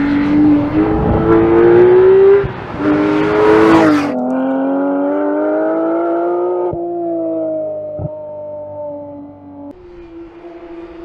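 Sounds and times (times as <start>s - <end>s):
car engine accelerating hard: 0.0s - 8.9s.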